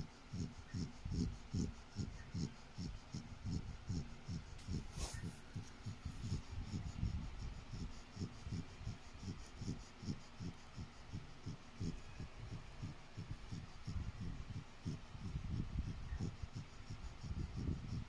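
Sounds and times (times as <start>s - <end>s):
dog snoring: 0.0s - 18.0s.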